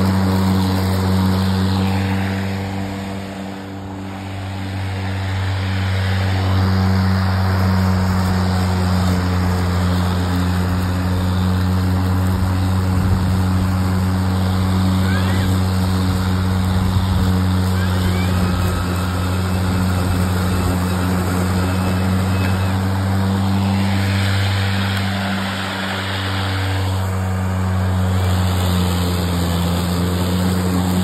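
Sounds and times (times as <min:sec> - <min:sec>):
electric lawnmower mowing grass: 0:00.0 - 0:31.0.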